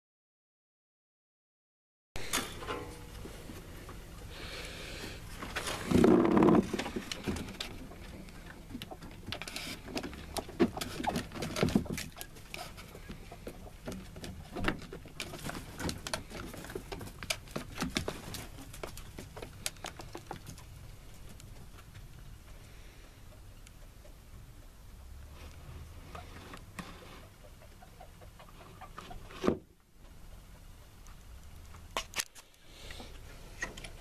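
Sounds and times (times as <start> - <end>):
chickens tapping and scratching: 5.3 - 25.2, 25.8 - 34.0.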